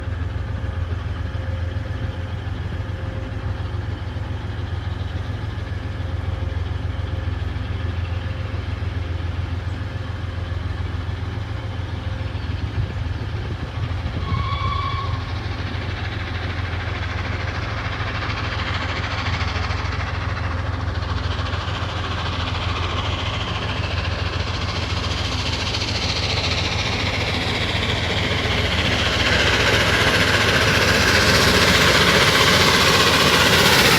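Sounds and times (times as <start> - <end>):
train approaching: 0.0 - 33.9.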